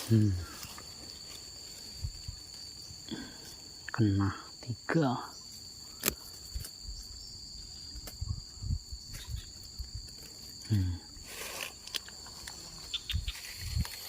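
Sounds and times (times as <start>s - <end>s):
crickets and insects chirring: 0.0s - 14.0s.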